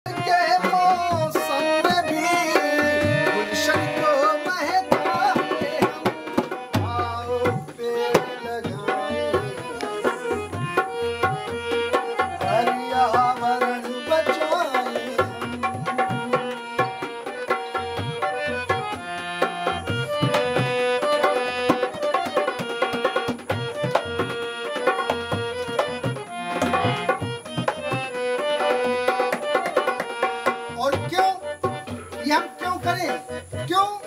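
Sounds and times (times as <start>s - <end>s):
harmonium melody: 0.0s - 34.0s.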